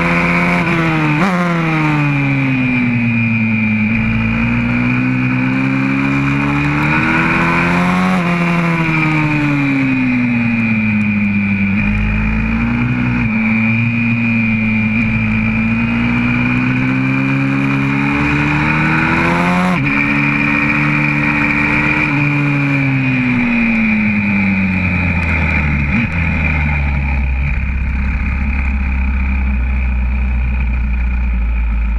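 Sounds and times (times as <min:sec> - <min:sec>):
motorbike engine revving: 0:00.0 - 0:31.9.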